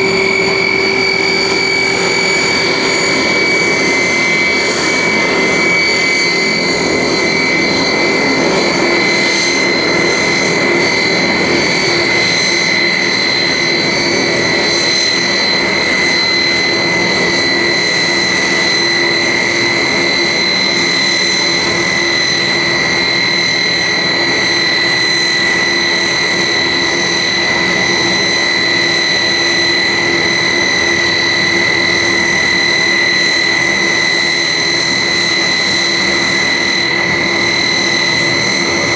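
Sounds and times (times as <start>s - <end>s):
turboprop engines whining: 0.0s - 38.9s.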